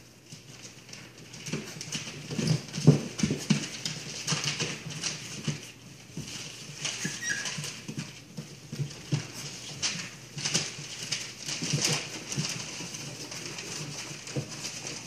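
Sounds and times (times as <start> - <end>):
newspaper crackling and rustling: 0.0 - 15.0
soft thumps of puppies: 1.4 - 15.0.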